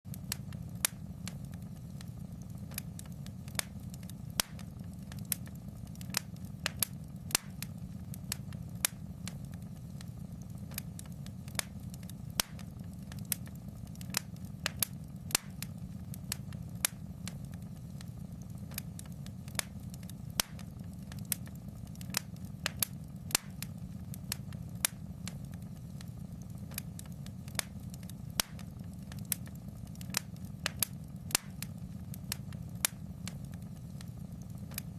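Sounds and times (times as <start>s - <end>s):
low rumble of burning fire: 0.1s - 34.9s
sharp pops and snaps: 0.1s - 34.9s
wood fire crackling: 0.1s - 34.9s.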